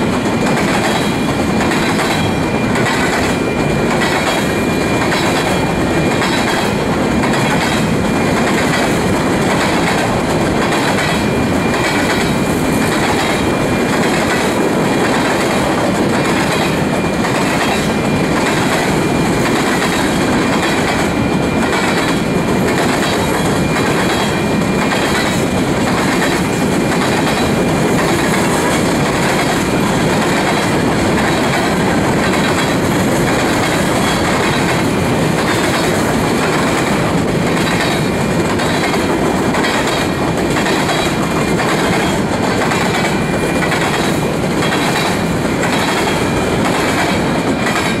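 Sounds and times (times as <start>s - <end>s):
train wheels rumbling on rails: 0.0s - 48.0s
wheels clacking over rail joints: 0.0s - 48.0s.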